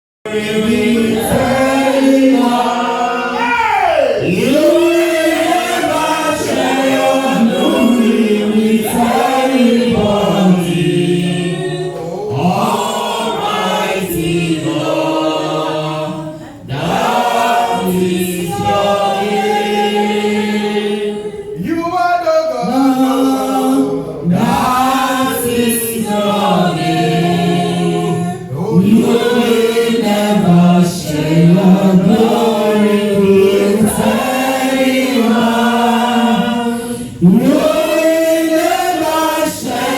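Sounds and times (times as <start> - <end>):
congregation singing a hymn: 0.3 - 39.9.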